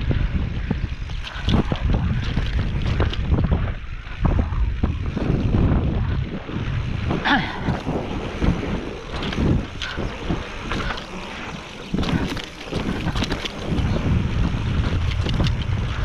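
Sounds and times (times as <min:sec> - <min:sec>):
bike clattering and rattling: 0:00.0 - 0:16.0
tyres rumbling over dirt: 0:00.0 - 0:16.0
wind buffeting microphone: 0:00.0 - 0:16.0.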